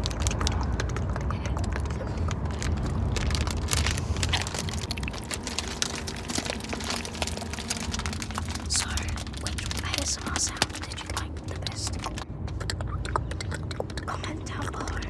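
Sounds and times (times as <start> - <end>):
crunching and crackling clicks: 0.0 - 15.0
steady low rumble: 0.0 - 15.0.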